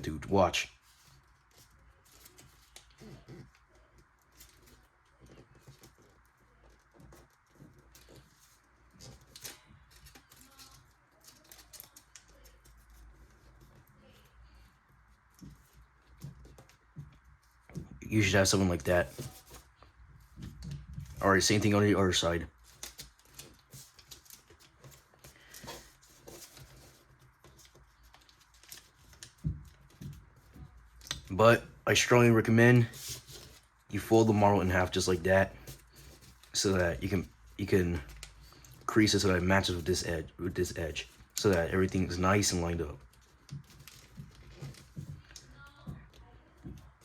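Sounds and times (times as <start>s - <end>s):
paper being folded and creased: 0.0s - 47.0s.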